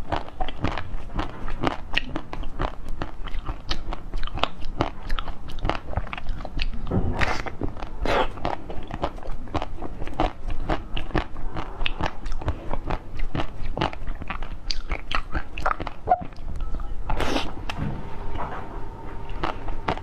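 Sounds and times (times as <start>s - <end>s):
crunchy treat being chewed: 0.0s - 17.8s, 19.2s - 20.0s.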